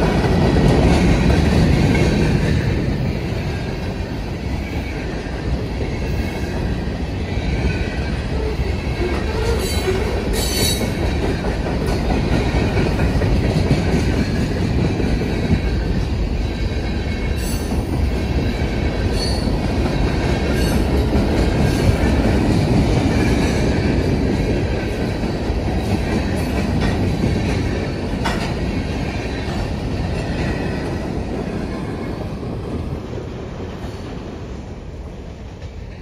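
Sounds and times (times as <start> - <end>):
train clatter: 0.0 - 34.5
train wheels rumbling on rail: 0.0 - 36.0.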